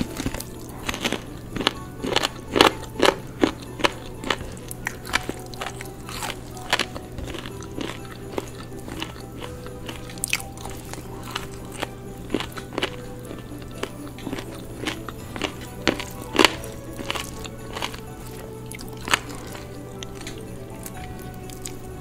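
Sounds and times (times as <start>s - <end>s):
mouths chewing: 0.0s - 22.0s.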